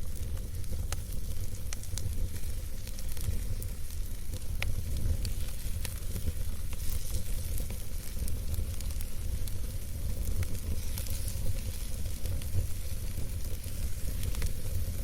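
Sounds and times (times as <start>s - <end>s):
campfire flame rumble: 0.0s - 15.0s
wood crackling and popping: 0.0s - 15.0s.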